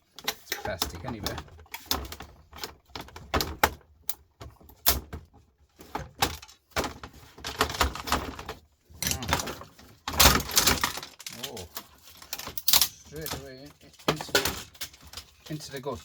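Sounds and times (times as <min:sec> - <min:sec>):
plastic and metal parts clicking: 0:00.1 - 0:16.0.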